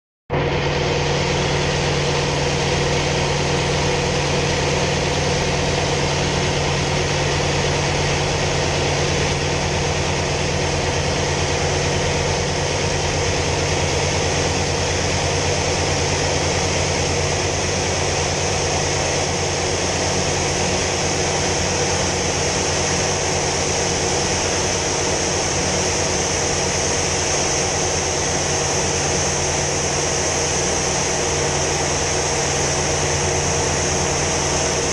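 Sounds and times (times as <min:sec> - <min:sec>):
aircraft engine drone: 0:00.3 - 0:34.9.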